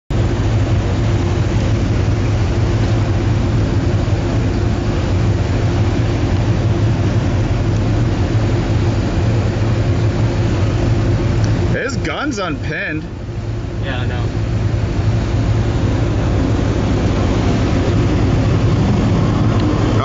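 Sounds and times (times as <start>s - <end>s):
rushing wind: 0.1s - 20.0s
sea noise: 0.1s - 20.0s
ship machinery drone: 0.1s - 20.0s.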